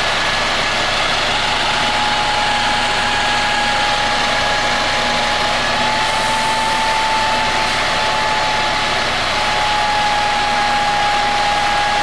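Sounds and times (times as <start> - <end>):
diesel bus engine idling: 0.0 - 12.0.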